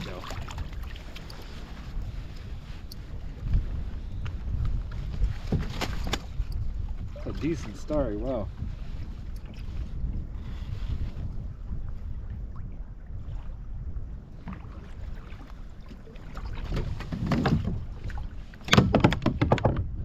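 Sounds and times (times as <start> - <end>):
water against kayak: 0.0 - 20.0
wind buffeting microphone: 0.0 - 20.0.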